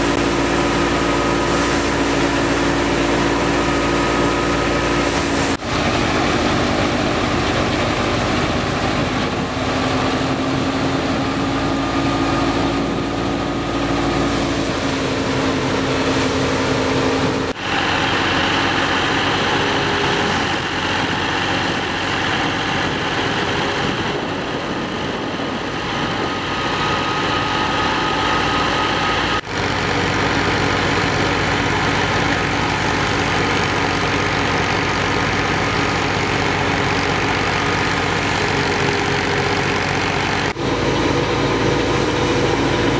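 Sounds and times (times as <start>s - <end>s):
tractor diesel engine running: 0.0s - 42.9s
wheat thresher threshing: 0.0s - 42.9s.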